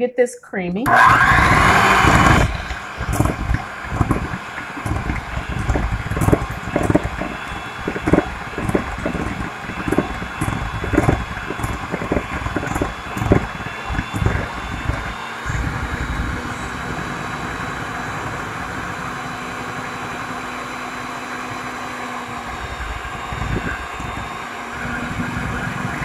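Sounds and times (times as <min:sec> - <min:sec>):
electric hand mixer humming: 0:00.9 - 0:26.0.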